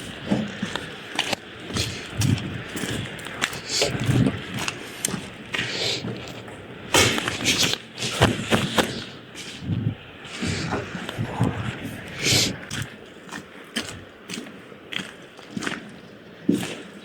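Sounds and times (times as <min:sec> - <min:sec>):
footsteps: 0:00.0 - 0:15.8.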